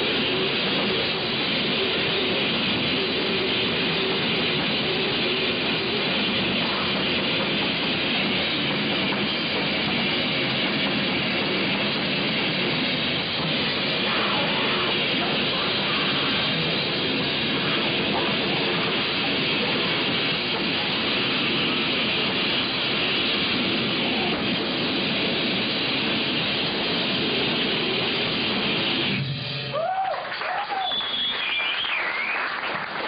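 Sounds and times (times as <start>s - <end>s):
distorted electric guitars: 0.0s - 30.0s
drum kit: 0.0s - 30.1s.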